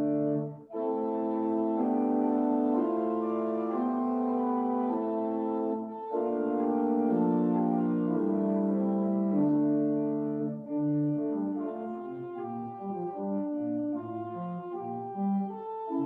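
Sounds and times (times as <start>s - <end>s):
church organ chords: 0.0s - 16.0s.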